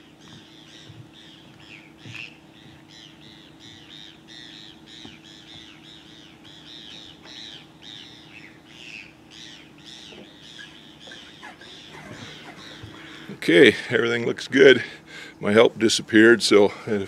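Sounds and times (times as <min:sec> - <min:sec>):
birds calling: 0:00.0 - 0:15.6.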